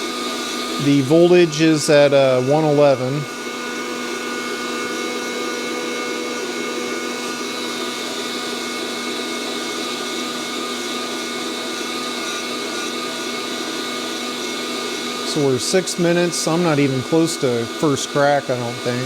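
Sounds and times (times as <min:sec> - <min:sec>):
coffee roaster fan whirring: 0:00.0 - 0:19.0.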